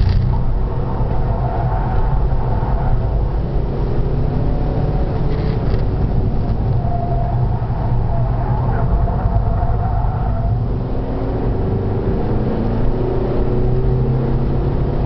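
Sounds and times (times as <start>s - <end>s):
car engine running hard: 0.0s - 15.0s
road and wind noise: 0.0s - 15.0s.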